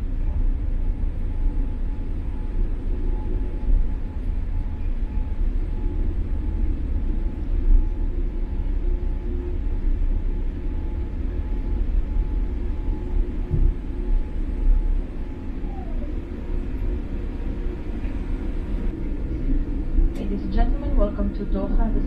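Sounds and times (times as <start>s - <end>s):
airliner cabin rumble: 0.0s - 22.0s
faint steady hum: 0.0s - 22.0s.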